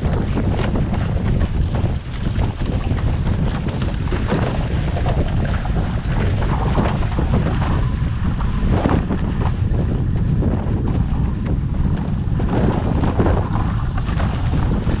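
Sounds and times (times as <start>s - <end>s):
water rushing along a hull: 0.0s - 15.0s
wind buffeting microphone: 0.0s - 15.0s.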